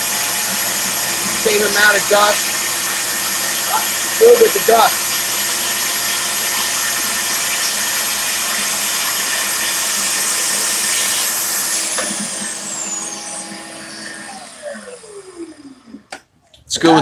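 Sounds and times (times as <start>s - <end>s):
track saw cutting wood: 0.0s - 16.2s
shop vacuum running: 0.0s - 16.3s.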